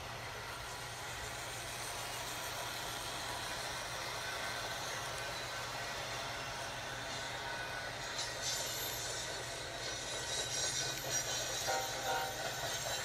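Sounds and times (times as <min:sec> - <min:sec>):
model train whirring on track: 0:00.0 - 0:13.0.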